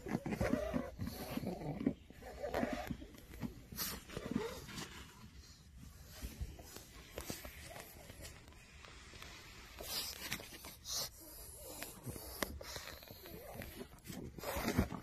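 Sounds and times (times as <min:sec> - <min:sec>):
dog breathing noisily: 0:00.0 - 0:08.5, 0:09.6 - 0:15.0.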